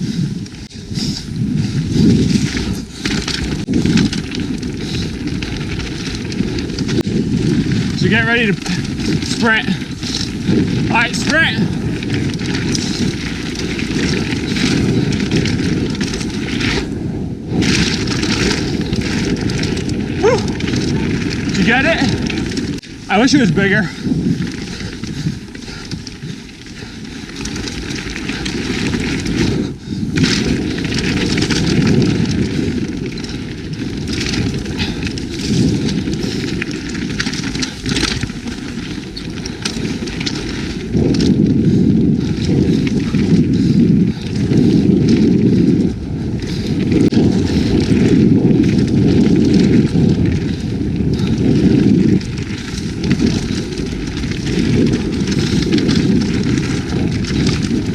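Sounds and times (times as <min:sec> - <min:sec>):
bike tyres rumbling on dirt trail: 0:00.0 - 0:57.9
wind buffeting microphone: 0:00.0 - 0:57.9
bike clicks and knocks: 0:00.4 - 0:23.2, 0:24.0 - 0:57.9.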